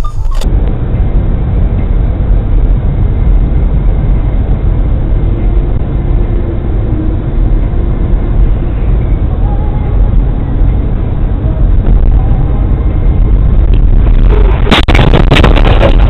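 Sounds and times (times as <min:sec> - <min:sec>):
vehicle driving rumble: 0:00.0 - 0:16.0.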